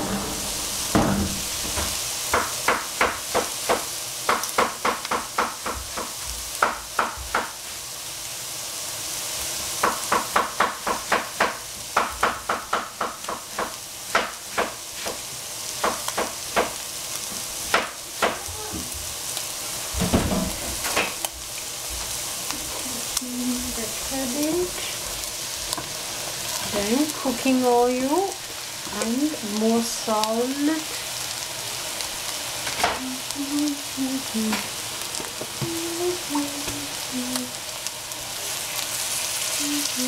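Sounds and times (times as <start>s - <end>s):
meat sizzling in frying pan: 0.0s - 40.0s.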